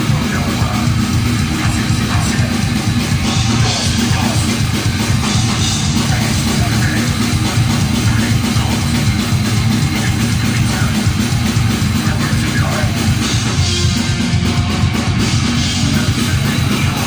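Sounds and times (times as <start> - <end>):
distorted guitars: 0.0 - 17.0
fast pounding drums: 0.0 - 17.0.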